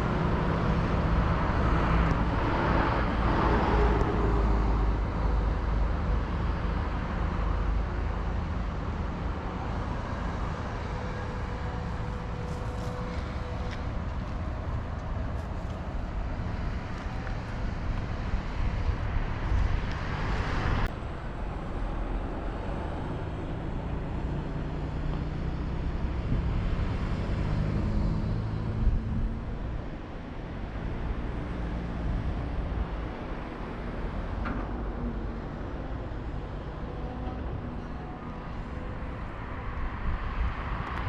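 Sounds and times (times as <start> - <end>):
road traffic rumble: 0.0 - 41.0
vehicles passing: 0.0 - 41.0.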